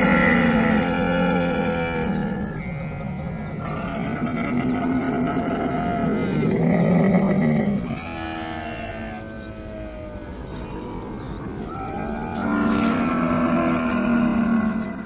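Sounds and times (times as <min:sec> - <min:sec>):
camel calling: 0:00.0 - 0:10.8, 0:11.6 - 0:15.0.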